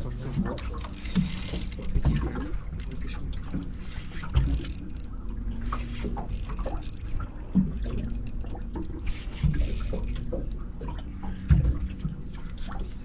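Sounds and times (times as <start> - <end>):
boat low rumble: 0.0 - 13.0.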